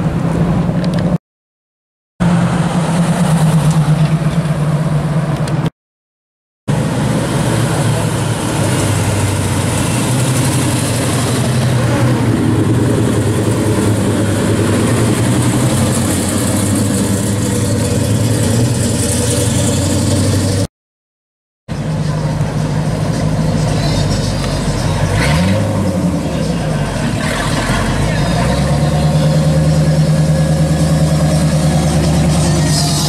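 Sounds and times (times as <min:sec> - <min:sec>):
car engines idling and passing: 0:00.0 - 0:01.2, 0:02.2 - 0:05.7, 0:06.7 - 0:20.7, 0:21.7 - 0:33.0
engine revving: 0:02.2 - 0:05.7, 0:06.7 - 0:20.7, 0:22.0 - 0:33.0.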